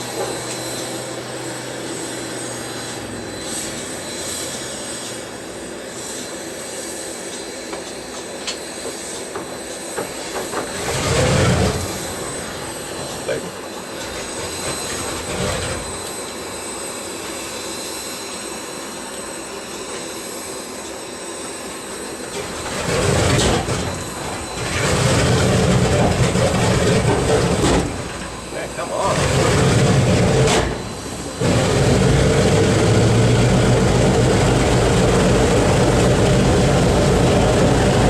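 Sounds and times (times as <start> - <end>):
aircraft engines running: 0.0 - 38.0.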